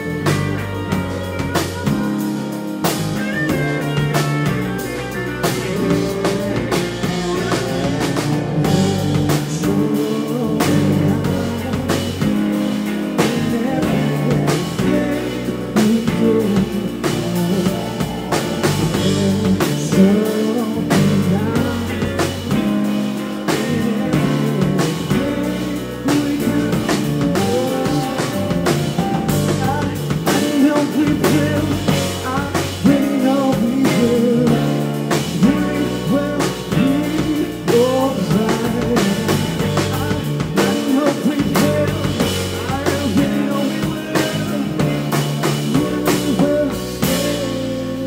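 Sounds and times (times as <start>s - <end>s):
bass guitar: 0.0s - 48.0s
drum kit beat: 0.0s - 48.0s
electric guitar: 0.0s - 48.0s.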